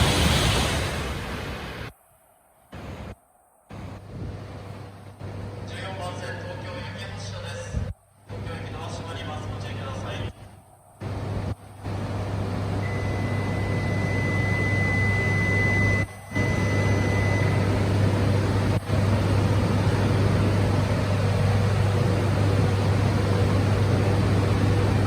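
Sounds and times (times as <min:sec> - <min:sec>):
low mechanical hum with hiss: 0:02.8 - 0:25.0.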